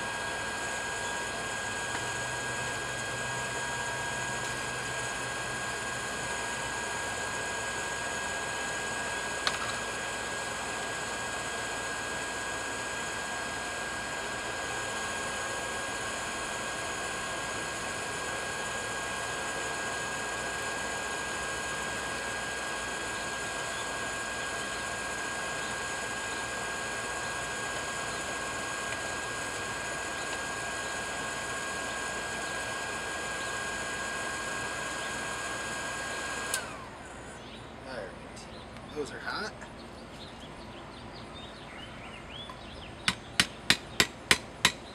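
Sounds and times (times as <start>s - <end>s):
electric blower rushing air: 0.0s - 37.4s.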